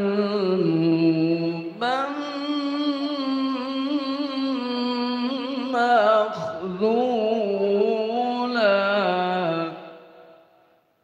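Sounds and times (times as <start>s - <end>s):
man chanting melodically: 0.0s - 10.4s.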